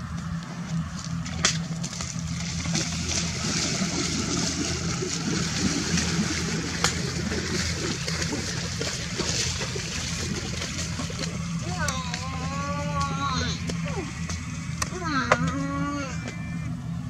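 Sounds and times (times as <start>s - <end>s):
jet engines running: 0.0s - 17.0s
low steady hum: 0.0s - 17.0s.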